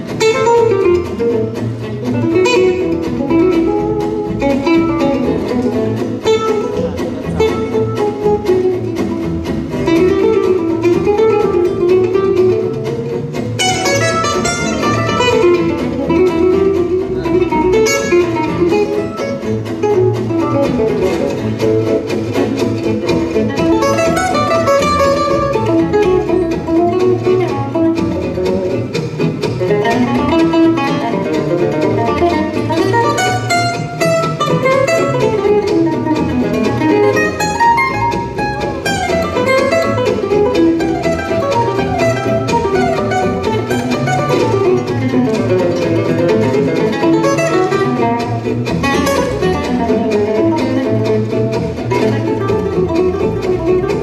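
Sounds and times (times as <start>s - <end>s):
acoustic guitar solo: 0.0s - 54.0s
plucked double bass: 0.0s - 54.0s
strummed rhythm guitar: 0.0s - 54.0s.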